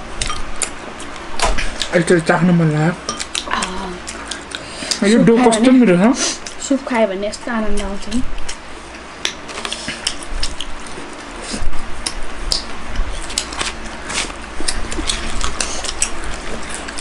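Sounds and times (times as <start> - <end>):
people chewing: 0.2 - 2.4, 3.0 - 6.7, 7.7 - 17.0.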